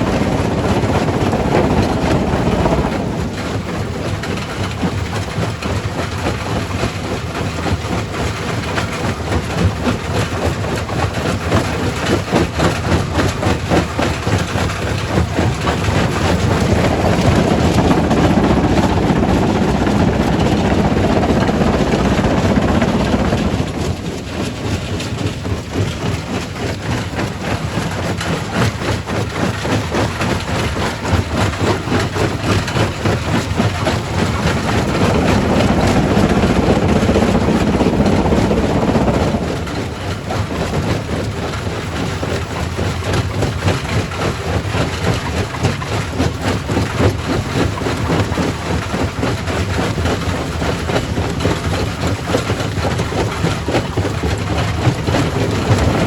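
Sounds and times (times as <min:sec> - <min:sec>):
rock crusher clatter and rumble: 0:00.0 - 0:56.0.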